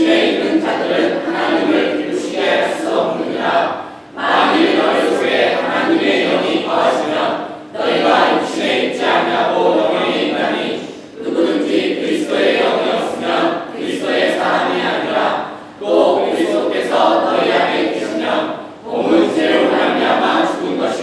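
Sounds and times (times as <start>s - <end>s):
group reciting in unison: 0.0s - 21.0s.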